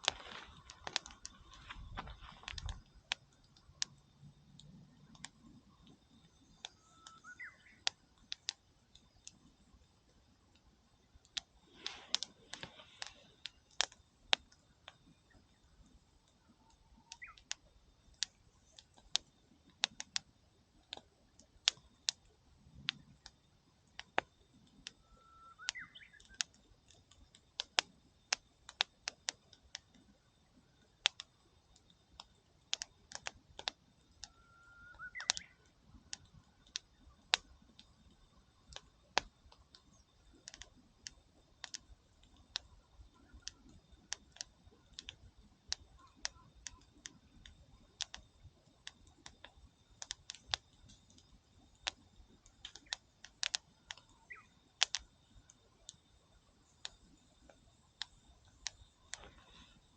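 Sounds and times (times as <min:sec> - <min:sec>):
campfire wood crackling and popping: 0:00.0 - 0:59.9.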